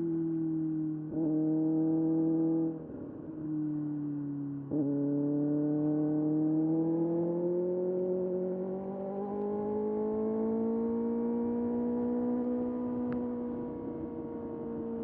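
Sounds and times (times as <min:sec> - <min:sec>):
motorcycle engine under steady throttle: 0:00.0 - 0:15.0.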